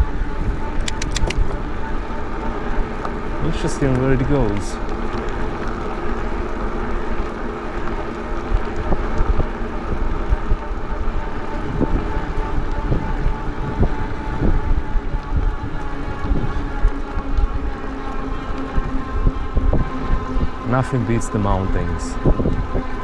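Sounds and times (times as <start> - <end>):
bike riding rumble: 0.0 - 23.0
electric motor whine: 0.0 - 23.0.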